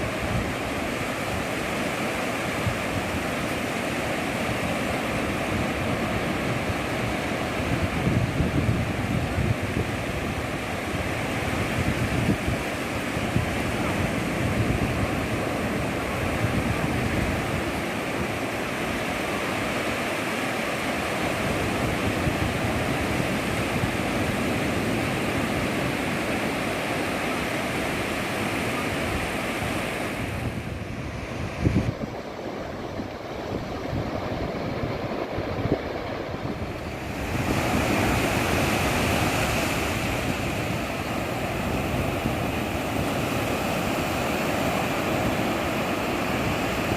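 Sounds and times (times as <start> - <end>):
sea waves breaking on beach: 0.0 - 46.9.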